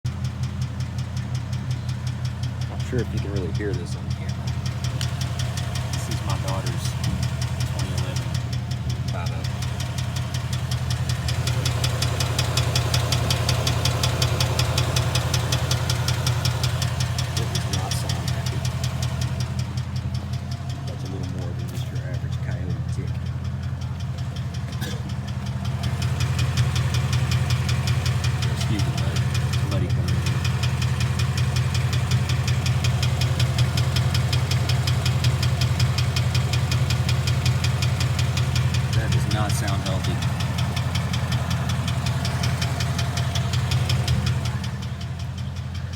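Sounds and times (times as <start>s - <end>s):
low engine hum: 0.0s - 45.9s
rapid metallic engine knock: 0.0s - 45.9s.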